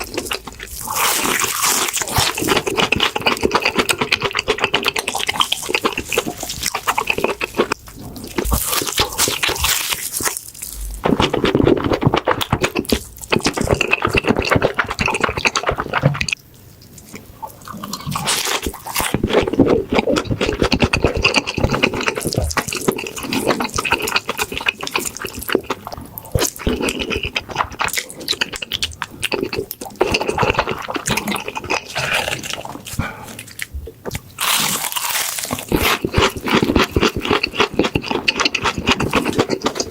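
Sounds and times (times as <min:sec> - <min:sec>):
chewing crispy fried food: 0:00.0 - 0:39.9.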